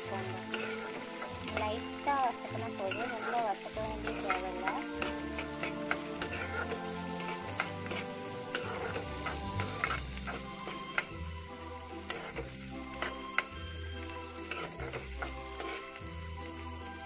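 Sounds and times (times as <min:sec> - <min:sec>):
spoon scraping a metal pan: 0:00.0 - 0:11.2, 0:12.0 - 0:16.0
onions sizzling in oil: 0:00.0 - 0:17.0.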